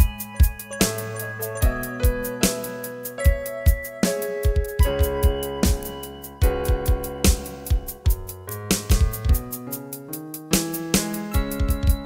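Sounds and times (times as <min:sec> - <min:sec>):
kick-drum beat: 0:00.0 - 0:02.6, 0:03.2 - 0:09.7, 0:11.3 - 0:12.0
held keyboard chords: 0:00.0 - 0:12.0.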